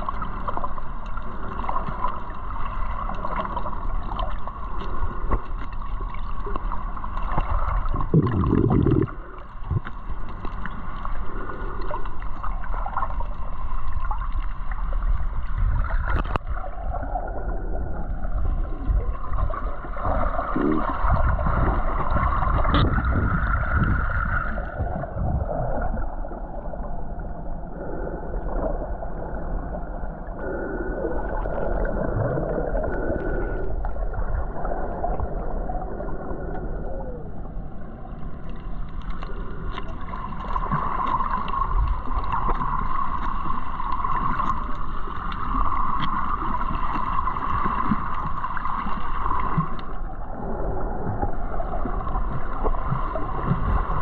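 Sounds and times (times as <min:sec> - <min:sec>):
muffled underwater water sloshing: 0:00.0 - 0:54.0.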